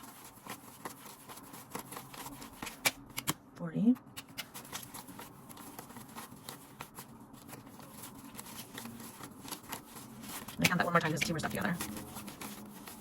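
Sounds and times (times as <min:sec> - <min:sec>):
banknotes being counted: 0:00.0 - 0:03.4, 0:04.2 - 0:13.0.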